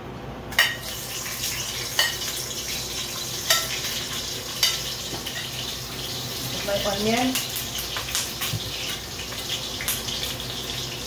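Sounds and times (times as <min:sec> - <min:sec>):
onion sizzling in pot: 0:00.5 - 0:11.0.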